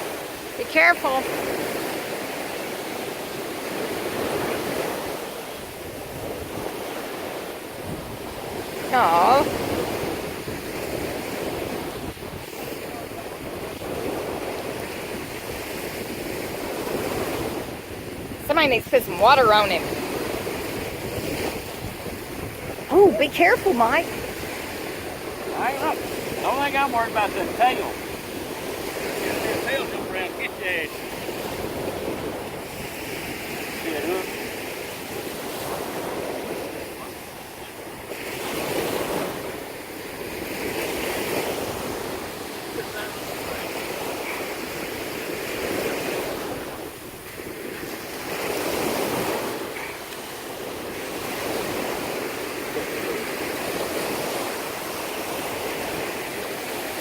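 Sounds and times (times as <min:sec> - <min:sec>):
surf washing in: 0:00.0 - 0:57.0
wind buffeting microphone: 0:00.0 - 0:57.0.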